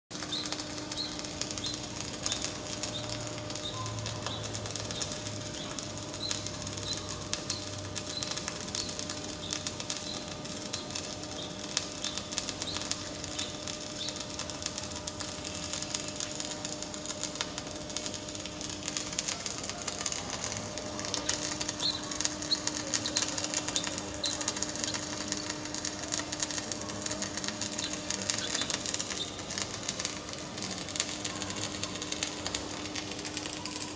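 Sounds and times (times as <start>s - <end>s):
welding arc crackling: 0.1s - 33.9s.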